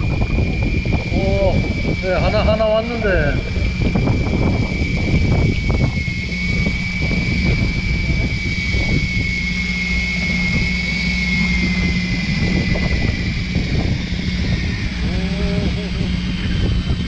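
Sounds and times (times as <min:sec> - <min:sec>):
boat engine droning: 0:00.0 - 0:17.0
low rumbling: 0:00.0 - 0:17.0.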